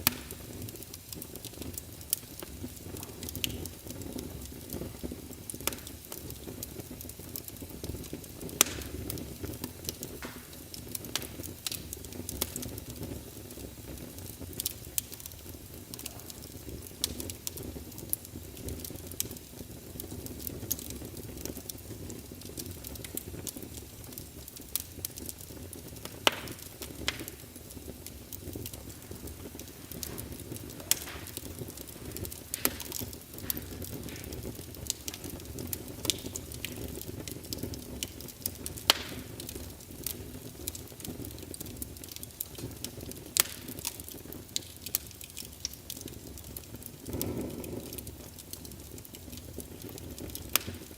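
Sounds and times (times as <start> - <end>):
loud fire pops: 0.0 - 50.9
wood fire crackling: 0.0 - 50.9.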